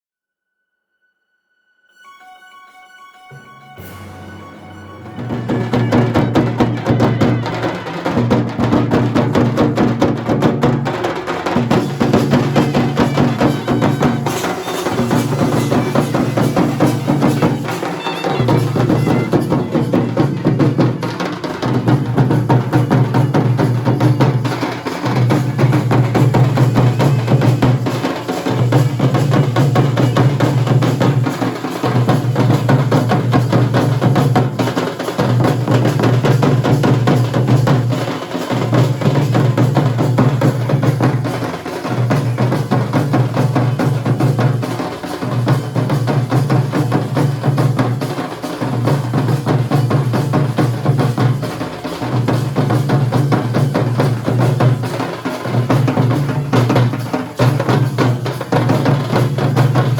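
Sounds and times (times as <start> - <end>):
drums in fast strokes: 3.4 - 59.9.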